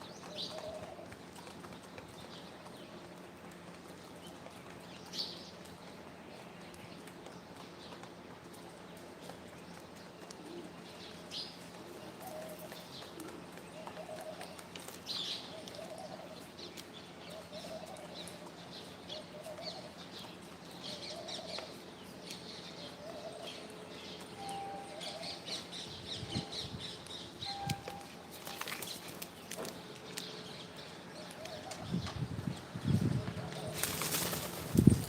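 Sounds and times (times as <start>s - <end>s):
birds chirping and twittering: 0.0s - 35.0s.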